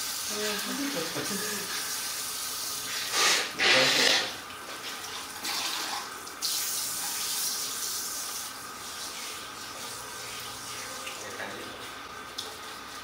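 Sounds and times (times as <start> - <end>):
running water rinsing: 0.0 - 13.0.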